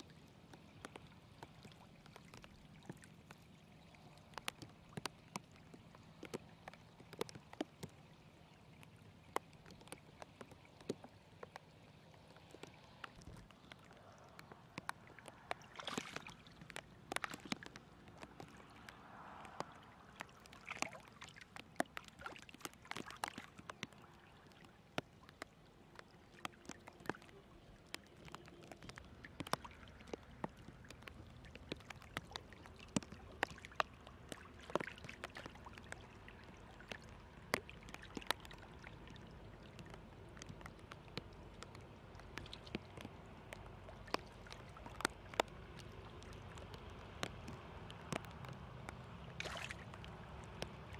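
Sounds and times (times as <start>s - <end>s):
small sharp splashes: 0.0s - 50.9s
water flowing and gurgling: 0.0s - 50.9s.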